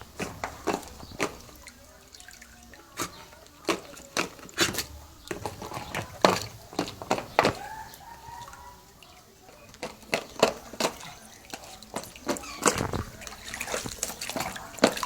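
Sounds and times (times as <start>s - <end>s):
dog paws splashing water: 0.0s - 15.0s.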